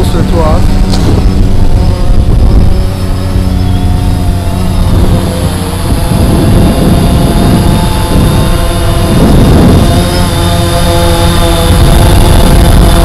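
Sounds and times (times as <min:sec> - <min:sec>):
drone propellers whirring: 0:00.0 - 0:13.0
wind rumble on microphone: 0:00.0 - 0:13.0.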